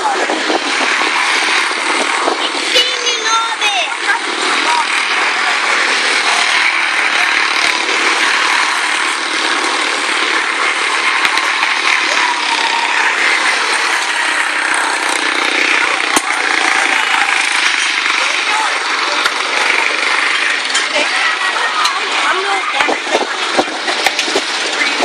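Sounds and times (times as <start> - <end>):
small race car engines buzzing: 0.0 - 25.0.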